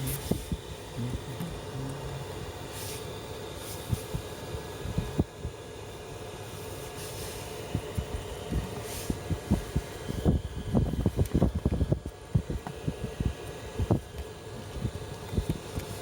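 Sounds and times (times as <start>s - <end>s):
heater blower hum: 0.0s - 16.0s.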